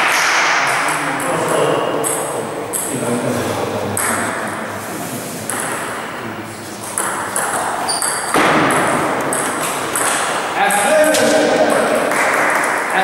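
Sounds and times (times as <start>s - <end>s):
ping-pong ball knocking: 0.0s - 3.0s, 3.9s - 4.6s, 5.5s - 6.2s, 6.8s - 12.9s.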